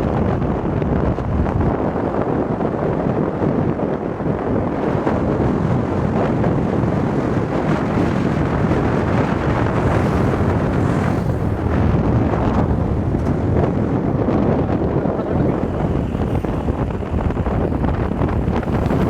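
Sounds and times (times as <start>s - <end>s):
car rumbling: 0.0s - 19.0s
wind buffeting microphone: 0.0s - 19.0s.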